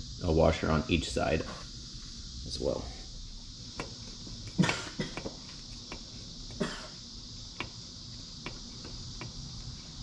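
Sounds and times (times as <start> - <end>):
steady high hiss: 0.0 - 10.0.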